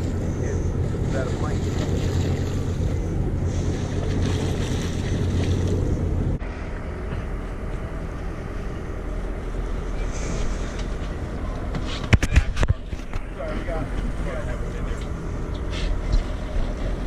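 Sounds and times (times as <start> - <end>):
boat engine idling: 0.0 - 17.0
water: 0.0 - 17.0.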